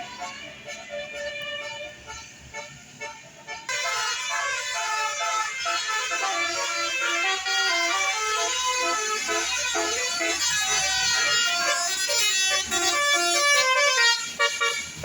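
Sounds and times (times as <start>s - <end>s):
musical bus horn melody: 0.0s - 15.0s.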